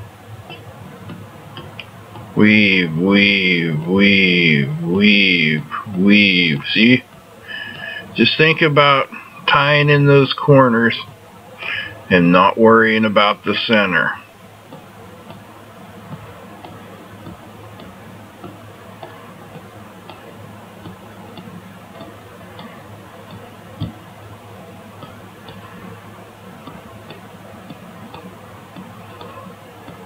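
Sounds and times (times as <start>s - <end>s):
faint regular ticking: 0.0s - 30.0s
low steady hum: 0.0s - 30.0s.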